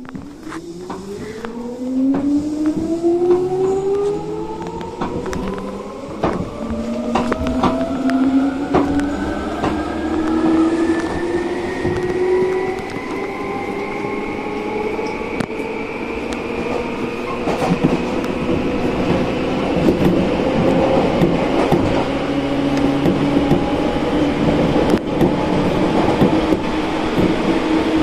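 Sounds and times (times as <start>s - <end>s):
train motors whining: 0.0s - 28.0s.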